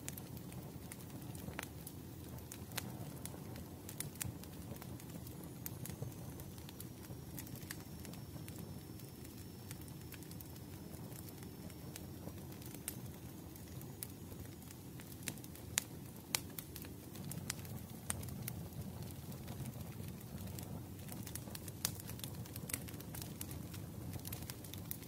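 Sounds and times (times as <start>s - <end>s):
firewood crackling: 0.0s - 25.0s
low rush of flames: 0.0s - 25.0s.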